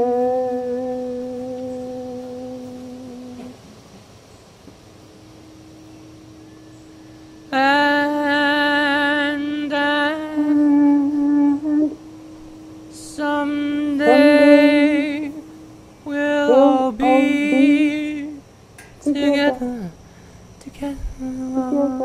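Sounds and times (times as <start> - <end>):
person singing slow melody: 0.0 - 3.8, 6.3 - 22.0
steady held tone: 0.0 - 22.0.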